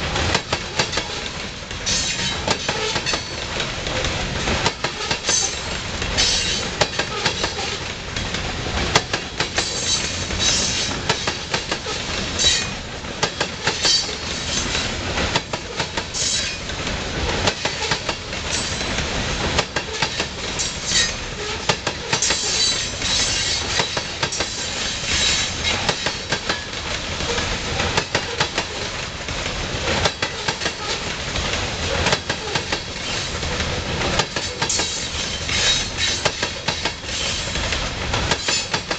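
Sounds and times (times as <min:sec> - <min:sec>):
train wheels rumbling on rails: 0:00.0 - 0:38.9
wheels clacking over rail joints: 0:00.0 - 0:38.9.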